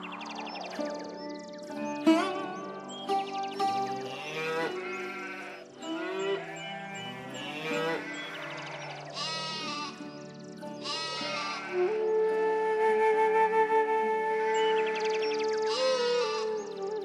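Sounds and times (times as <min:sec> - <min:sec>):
wavering pitched calls: 0:00.0 - 0:17.0.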